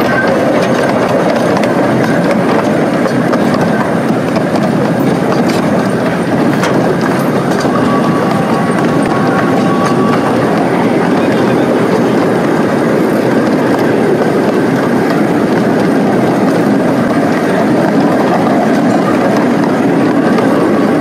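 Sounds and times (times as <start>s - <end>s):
ride train running: 0.0s - 21.0s
wheels clicking on rails: 0.0s - 21.0s.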